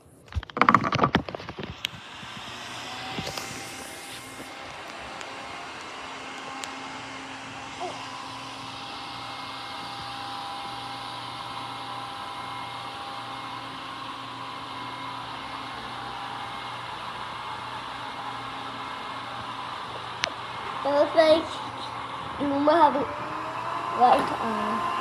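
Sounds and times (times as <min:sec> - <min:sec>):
robot vacuum motor hum: 0:00.3 - 0:25.0.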